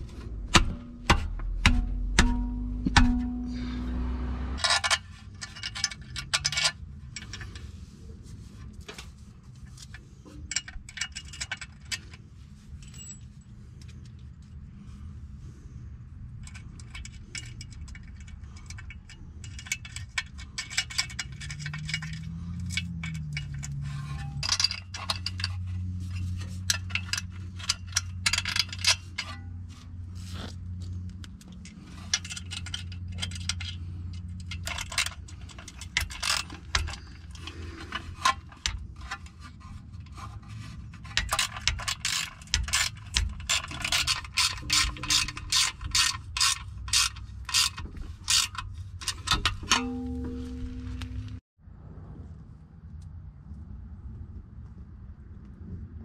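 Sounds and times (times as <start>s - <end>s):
metal plate and bolts clinking: 0.0s - 7.7s, 8.9s - 14.1s, 16.3s - 30.1s, 31.0s - 51.4s
low steady hum: 0.0s - 51.4s.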